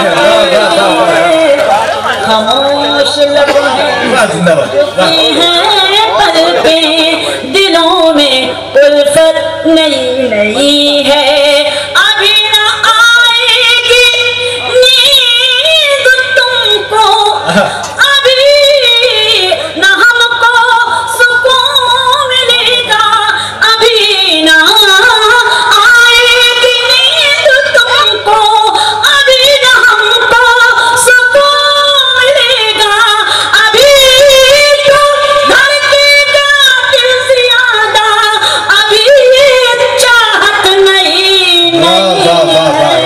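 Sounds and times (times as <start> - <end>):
woman singing: 4.9 - 41.9.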